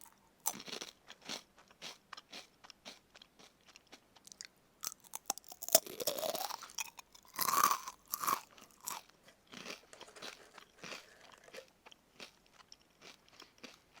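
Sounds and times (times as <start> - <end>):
chewing with small crackles: 0.0 - 14.0
crunchy bites of fried chicken: 0.0 - 14.0.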